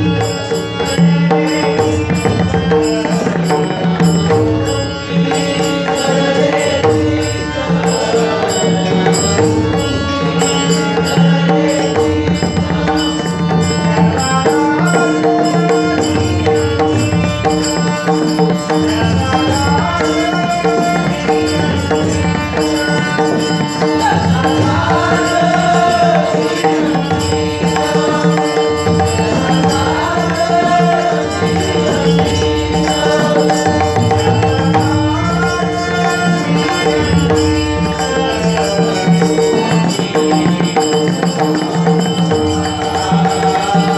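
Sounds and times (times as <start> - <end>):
person singing devotional song: 0.0 - 43.9.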